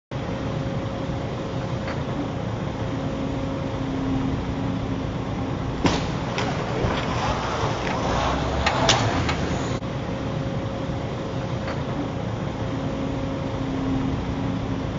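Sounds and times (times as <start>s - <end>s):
faint steady hum: 0.1s - 14.9s
road traffic: 0.1s - 14.9s
motor vehicle rumble: 0.2s - 14.9s.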